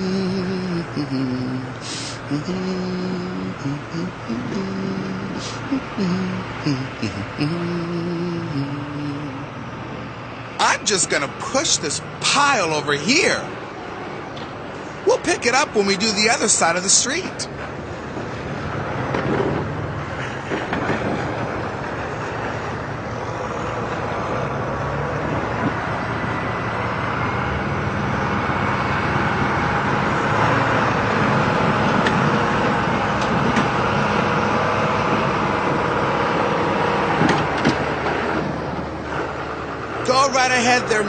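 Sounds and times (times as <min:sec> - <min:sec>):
diesel engine under load: 0:00.0 - 0:41.0.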